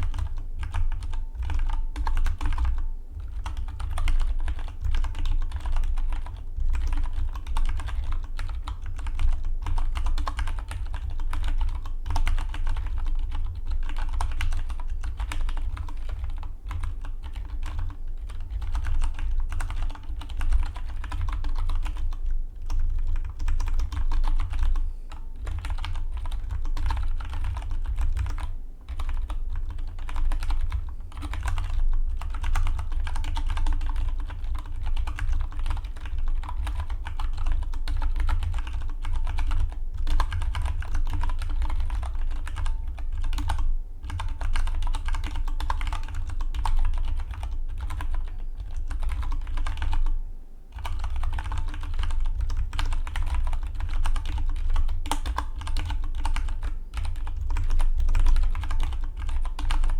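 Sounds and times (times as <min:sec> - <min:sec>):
mechanical keyboard typing: 0:00.0 - 0:24.8, 0:25.4 - 0:50.1, 0:50.8 - 0:59.9.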